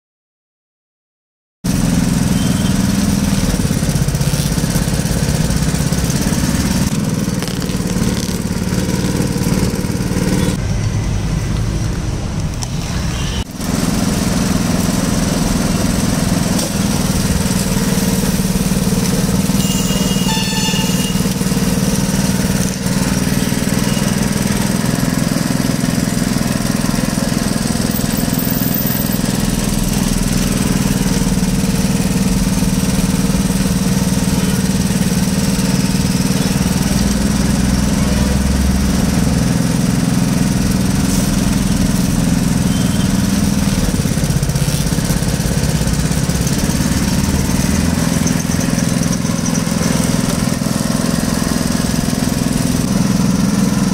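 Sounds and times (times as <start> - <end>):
sugarcane being crushed in rollers: 1.7 - 10.5, 13.6 - 53.9
juice machine engine drone: 1.7 - 53.9.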